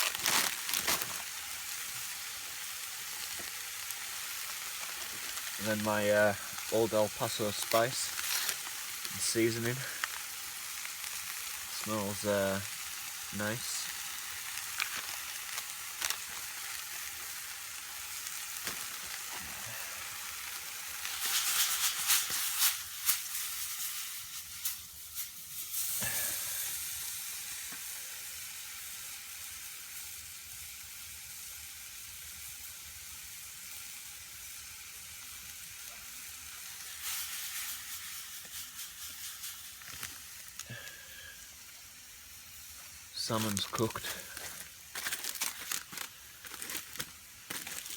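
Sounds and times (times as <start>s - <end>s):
food sizzling in a wok: 0.0s - 47.9s.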